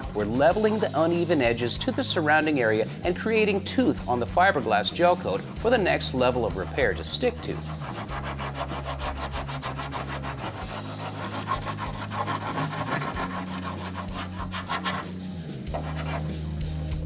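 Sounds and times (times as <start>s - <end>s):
sandpaper rasping on fiberglass: 0.6s - 16.4s.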